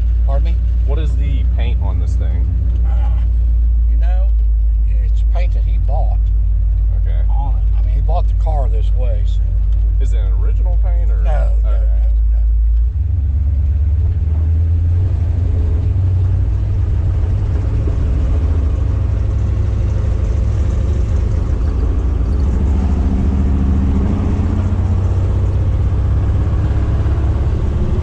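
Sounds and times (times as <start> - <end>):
engine idling with deep rumble: 0.0 - 28.0.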